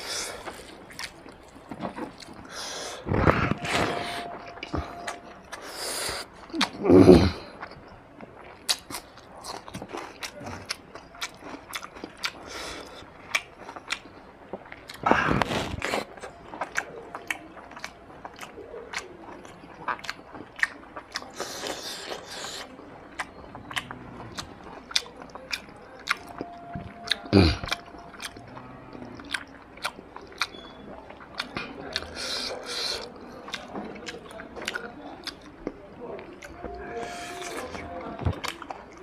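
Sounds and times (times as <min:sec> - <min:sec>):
chewing and lip-smacking: 0:00.0 - 0:39.0.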